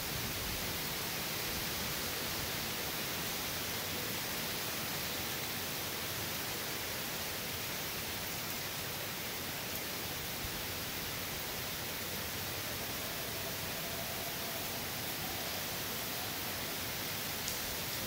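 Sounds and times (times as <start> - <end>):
rain and wind hissing: 0.0 - 18.0.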